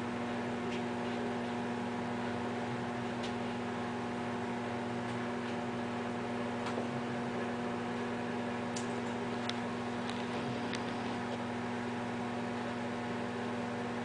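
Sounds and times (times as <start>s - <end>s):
electrical hum with hiss: 0.0s - 14.0s.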